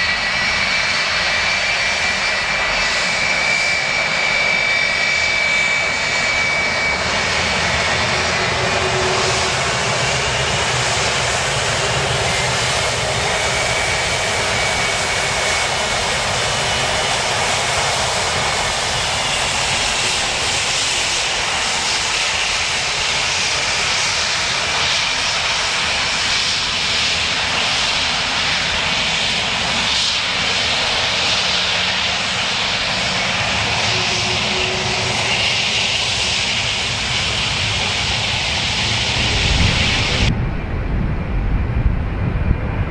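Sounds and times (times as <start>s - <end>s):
airliner engines roaring: 0.0s - 42.9s.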